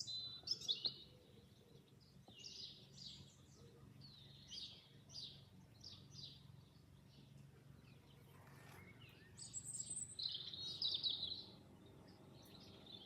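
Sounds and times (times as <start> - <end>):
faint low hum: 0.0 - 13.0
songbirds chirping: 0.0 - 13.0.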